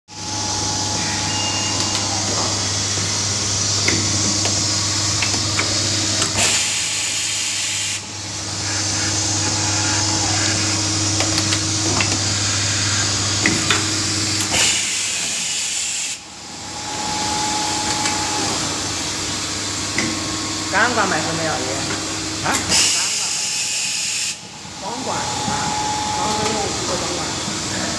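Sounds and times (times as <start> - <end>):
spindle motor tones: 0.1 - 15.1, 16.2 - 23.2, 24.6 - 27.9
low machine hum: 0.1 - 15.5, 16.2 - 23.6, 24.4 - 27.9
machine hiss: 0.2 - 20.2, 22.6 - 27.9.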